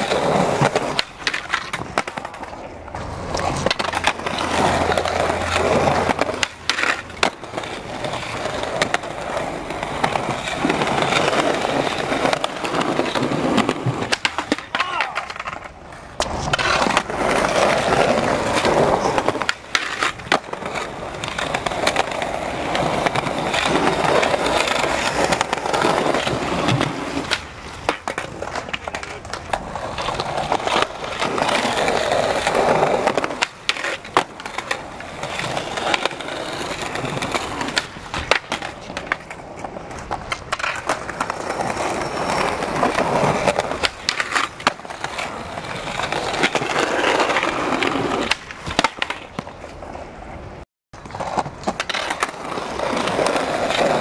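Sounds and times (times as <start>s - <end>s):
skateboard popping and landing clacks: 0.0s - 50.4s, 51.0s - 54.0s
skateboard wheels rolling on pavement: 0.0s - 54.0s.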